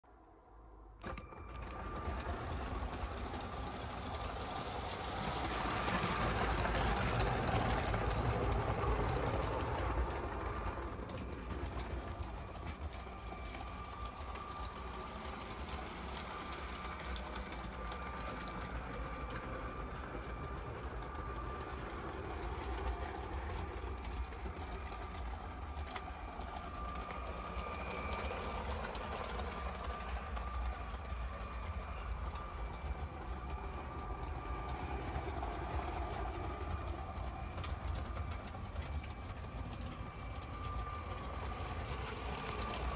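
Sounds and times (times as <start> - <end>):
toy train motor whine: 1.0 - 42.9
wheels rattling on plastic track: 1.0 - 42.9.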